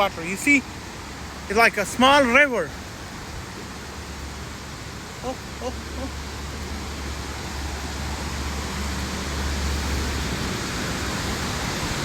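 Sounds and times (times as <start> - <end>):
creek and waterfall rushing: 0.0 - 12.0.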